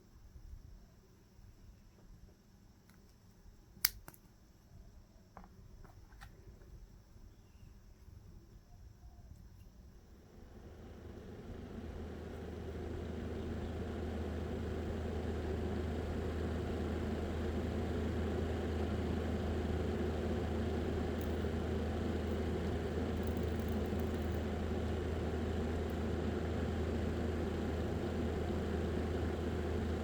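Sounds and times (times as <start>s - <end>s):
small electric fan humming: 0.0s - 30.0s.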